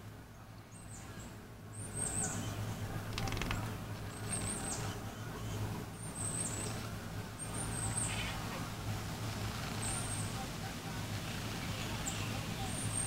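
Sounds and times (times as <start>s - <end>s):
distant traffic hum: 0.0s - 13.0s.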